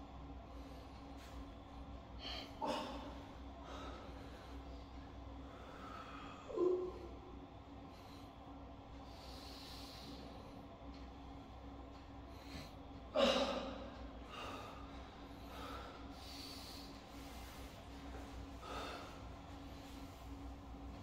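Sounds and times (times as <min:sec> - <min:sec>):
low hum: 0:00.0 - 0:21.0
man breathing: 0:02.2 - 0:10.7, 0:12.2 - 0:21.0.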